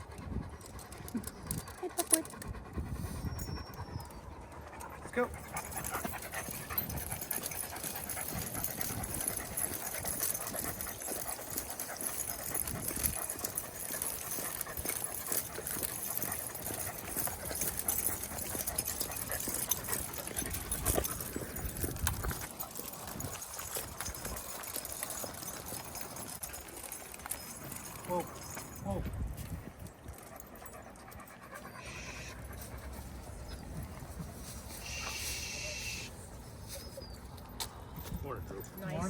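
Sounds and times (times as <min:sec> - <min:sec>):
dog sounds: 0:00.0 - 0:28.8, 0:29.7 - 0:37.5
dogs' paws on ground: 0:00.0 - 0:39.0.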